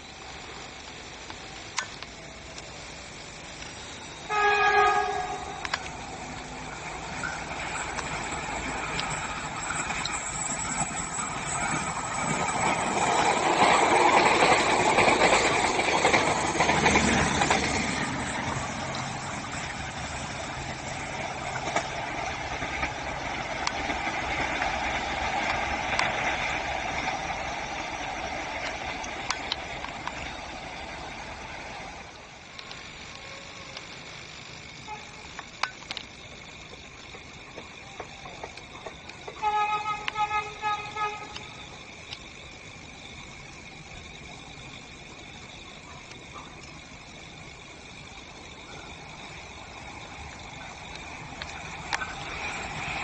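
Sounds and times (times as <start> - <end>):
diesel train passing: 0.0 - 53.0
wheels clicking on rails: 0.0 - 53.0.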